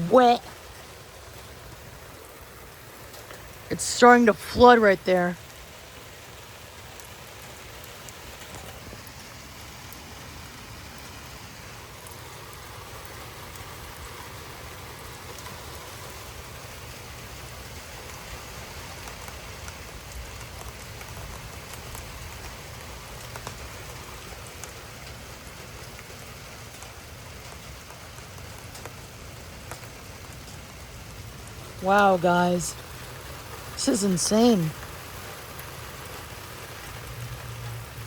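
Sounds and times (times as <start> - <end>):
sharp raindrop ticks: 0.0 - 38.0
torrential rain: 0.0 - 38.0.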